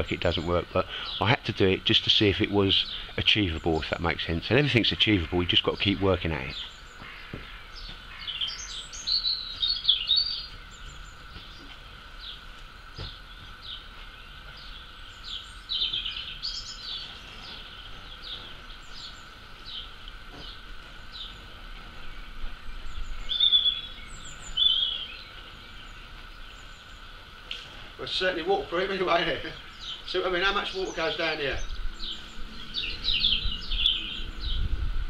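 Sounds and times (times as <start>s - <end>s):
small birds chirping: 0.0s - 35.0s
steady background noise: 0.0s - 35.0s.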